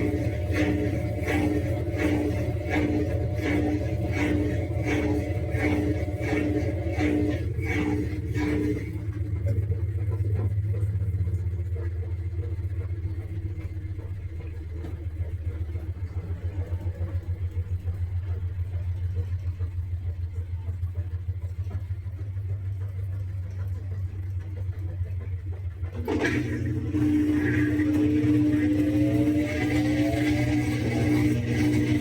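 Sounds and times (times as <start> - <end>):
washing machine motor humming: 0.0 - 32.0.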